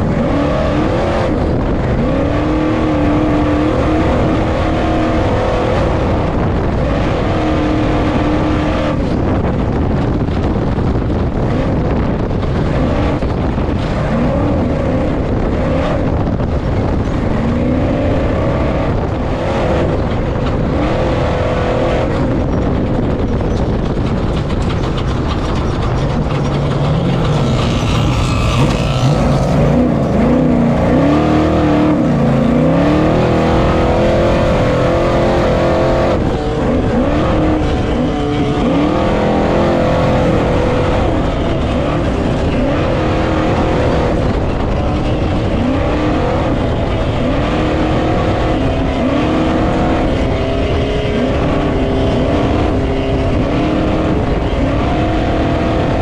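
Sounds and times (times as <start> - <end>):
off-road rattle: 0.0 - 56.0
truck engine revving: 0.0 - 56.0
wind rushing: 0.0 - 56.0.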